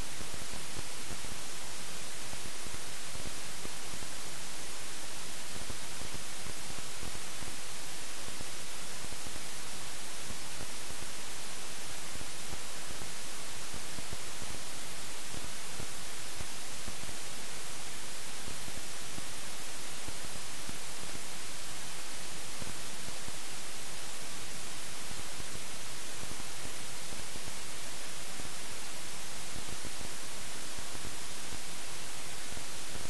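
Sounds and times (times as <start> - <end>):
electronic static hiss: 0.0 - 33.0.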